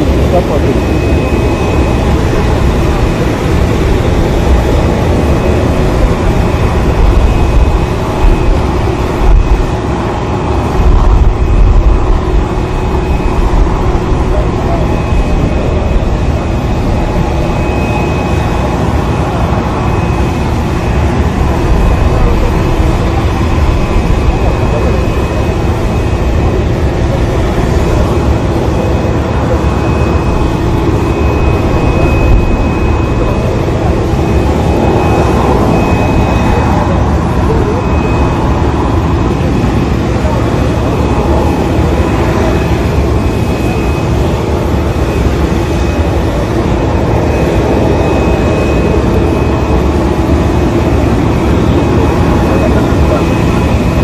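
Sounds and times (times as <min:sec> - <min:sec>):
jet aircraft rumble and whine: 0:00.0 - 0:54.0.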